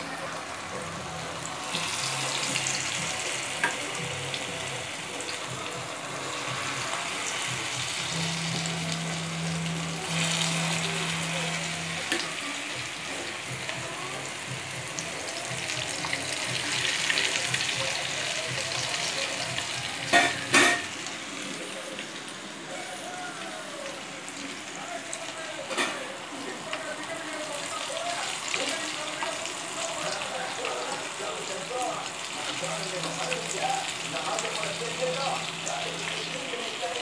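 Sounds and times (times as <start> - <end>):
chicken deep-frying in oil: 0.0 - 37.0.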